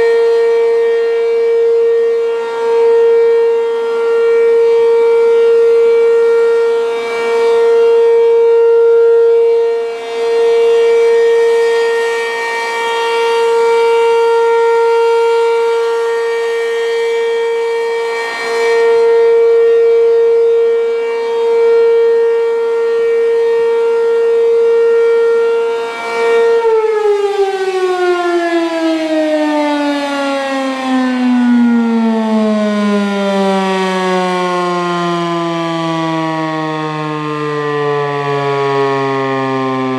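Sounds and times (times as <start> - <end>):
rotating siren wailing: 0.0 - 39.9
siren winding down: 0.0 - 39.9.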